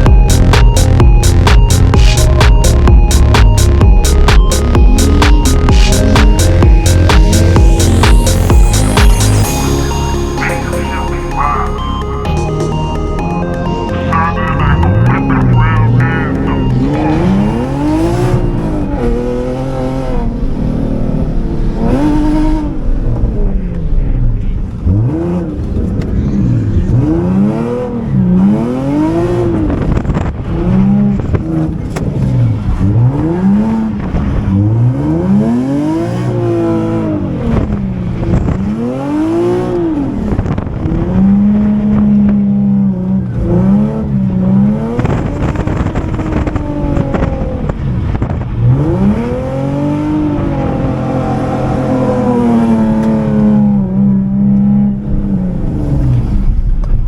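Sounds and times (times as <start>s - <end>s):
car engine revving hard: 0.0s - 10.3s, 15.0s - 56.9s.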